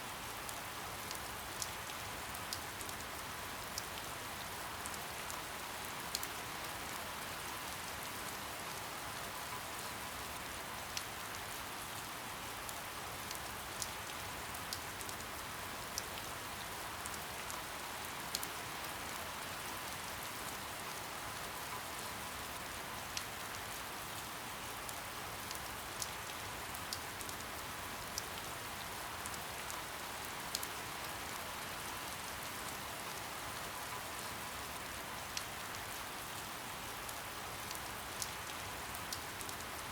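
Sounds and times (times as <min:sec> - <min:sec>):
soft steady rain hiss: 0:00.0 - 0:39.9.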